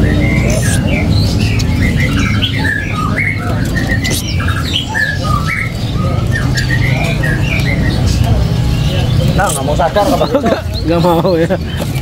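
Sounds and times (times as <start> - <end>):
songbird chirping and whistling: 0.0 - 12.0.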